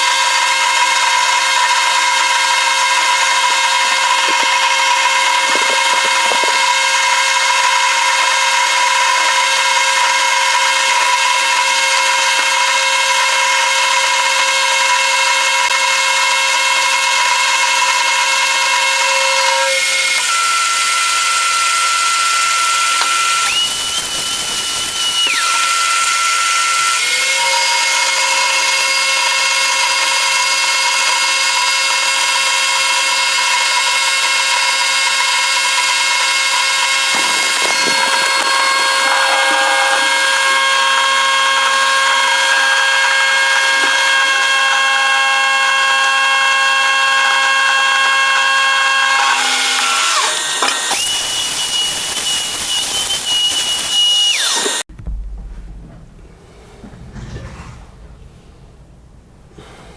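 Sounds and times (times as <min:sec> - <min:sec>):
power tool motor whining: 0:00.0 - 0:54.9.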